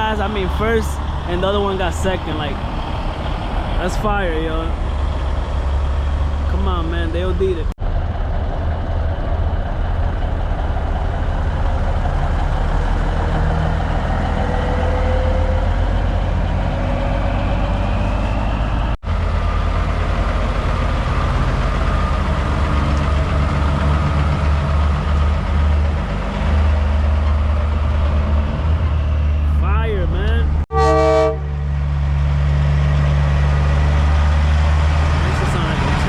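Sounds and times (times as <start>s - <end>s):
truck diesel engines idling: 0.0s - 14.6s, 18.3s - 30.6s, 31.7s - 36.0s.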